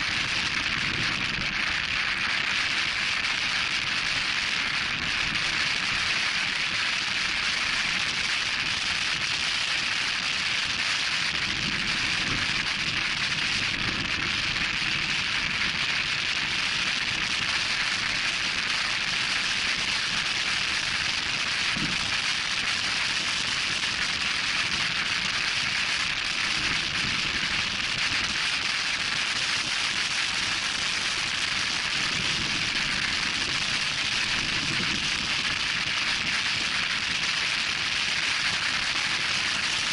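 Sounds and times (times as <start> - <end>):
wind rushing over microphone: 0.0 - 30.4, 31.0 - 38.7.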